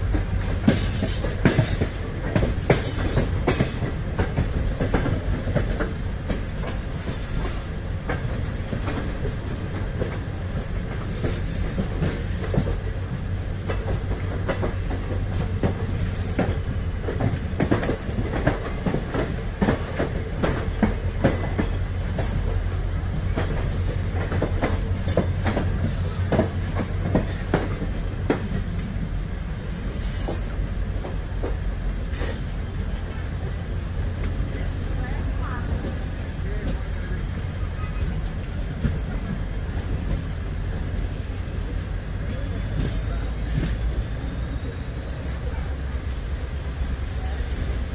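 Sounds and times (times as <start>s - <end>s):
train low rumble: 0.0s - 47.9s
train wheels clickety-clack: 0.0s - 47.9s.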